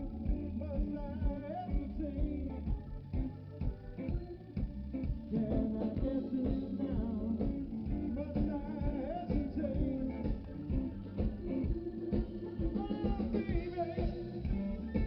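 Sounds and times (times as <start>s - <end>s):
electric guitar: 0.0s - 15.0s
live blues-rock band: 0.0s - 15.0s.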